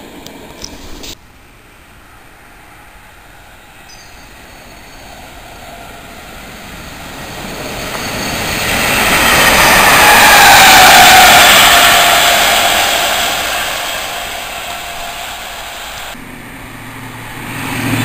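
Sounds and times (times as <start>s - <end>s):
train wheels rushing on rail: 2.0s - 18.0s
train whine falling in pitch: 3.0s - 18.0s.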